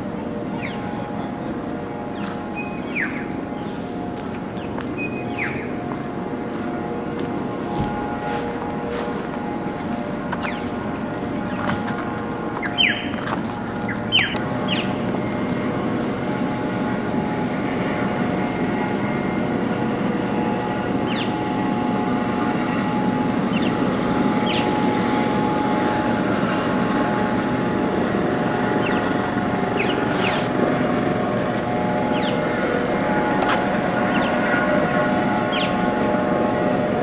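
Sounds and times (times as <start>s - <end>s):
constant tones: 0.0s - 37.0s
steady engine drone: 0.0s - 37.0s.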